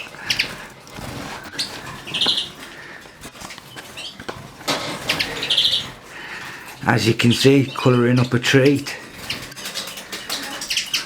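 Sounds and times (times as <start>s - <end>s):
finches chirping: 0.0s - 11.0s
small clicks in cages: 0.0s - 11.0s
wings fluttering: 0.0s - 11.0s.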